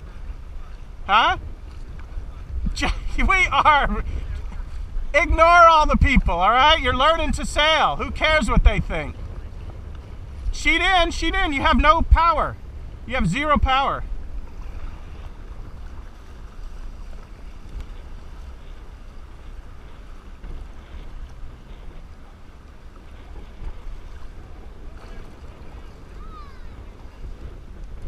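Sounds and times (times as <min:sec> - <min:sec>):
water lapping and splashing: 0:00.0 - 0:28.0
wind buffeting microphone: 0:00.0 - 0:28.0.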